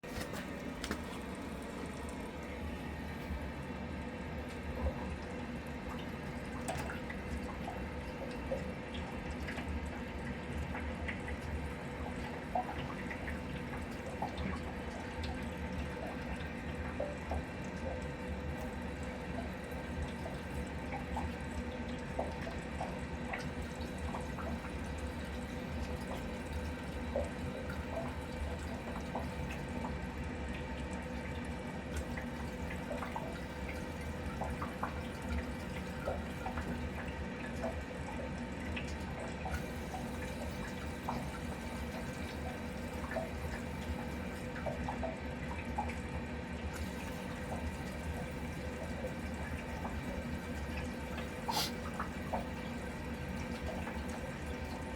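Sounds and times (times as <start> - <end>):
water running: 0.0 - 54.9
water splashes and drips: 0.0 - 54.9.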